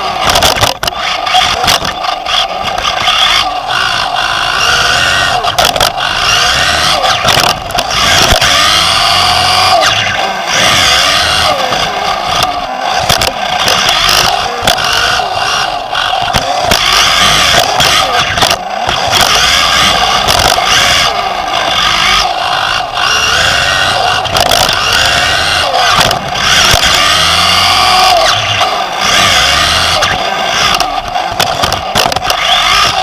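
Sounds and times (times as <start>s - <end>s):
electric motor whine: 0.0s - 33.0s
tyres on dirt: 0.0s - 33.0s.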